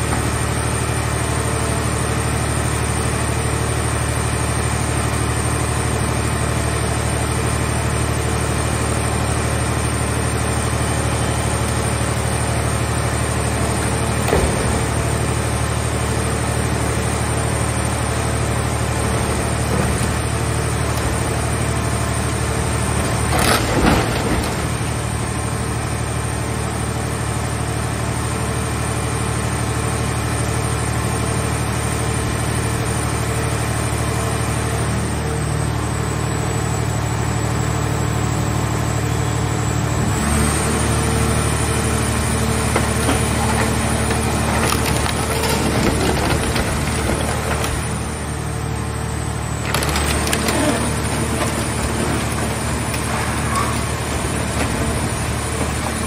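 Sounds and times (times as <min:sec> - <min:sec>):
hydraulic baler humming: 0:00.0 - 0:56.0.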